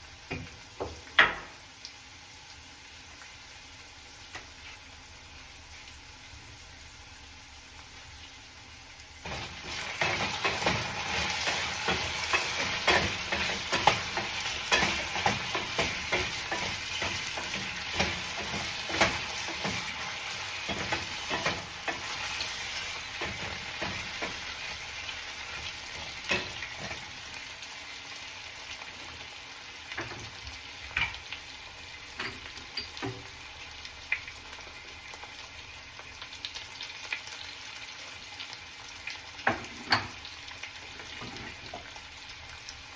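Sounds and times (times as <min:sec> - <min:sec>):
potatoes frying in hot oil: 0:00.0 - 0:42.9.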